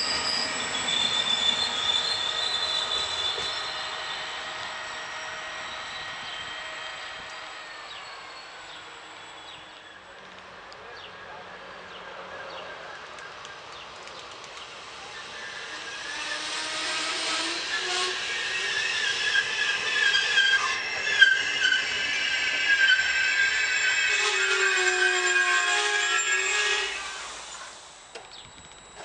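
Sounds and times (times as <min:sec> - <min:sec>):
train wheels squealing: 0:00.0 - 0:10.2, 0:15.0 - 0:29.0
electric train arriving: 0:00.0 - 0:29.0.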